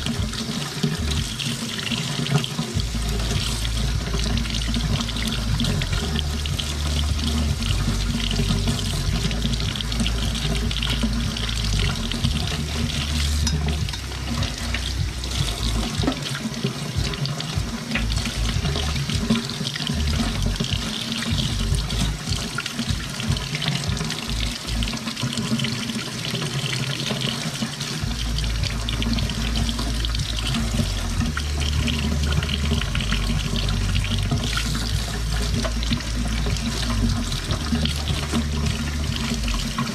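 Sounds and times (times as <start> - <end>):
faucet running into metal sink: 0.0 - 39.9
water splashing over crab legs: 0.0 - 39.9.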